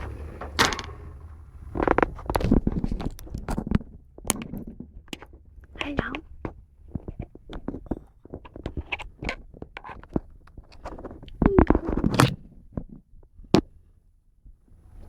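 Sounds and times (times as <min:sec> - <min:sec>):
small scratches and clicks: 0:00.0 - 0:12.4.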